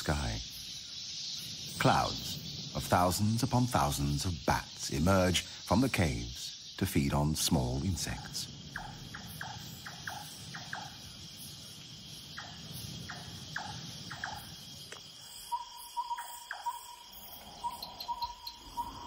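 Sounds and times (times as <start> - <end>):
crickets and insects trilling: 0.0 - 19.0.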